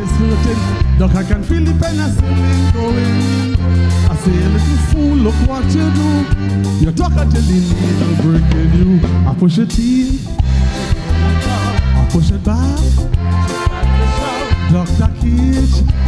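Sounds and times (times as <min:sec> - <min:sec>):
man singing into microphone: 0:00.0 - 0:10.4, 0:11.1 - 0:13.0, 0:13.6 - 0:16.0
live calypso band playing: 0:00.0 - 0:16.0.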